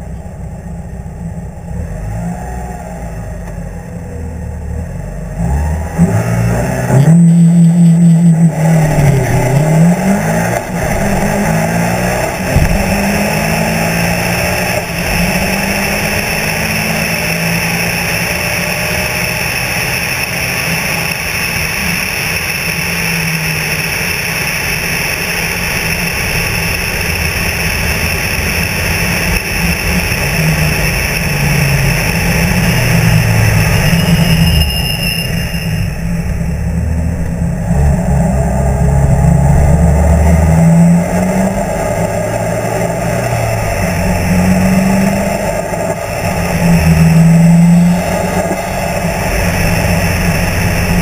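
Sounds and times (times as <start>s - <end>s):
car engine revving and accelerating: 0.0s - 51.0s
wind and road noise: 0.0s - 51.0s.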